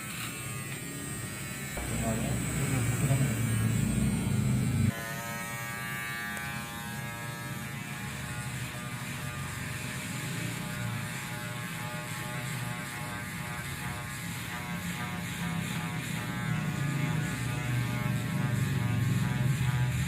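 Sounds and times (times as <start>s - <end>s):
electric hair clipper buzzing: 0.0s - 20.0s.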